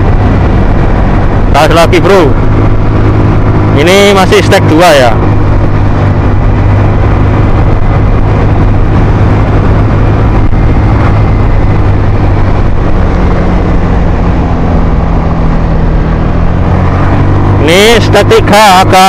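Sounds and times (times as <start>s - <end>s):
scooter engine at full throttle: 0.0s - 19.0s.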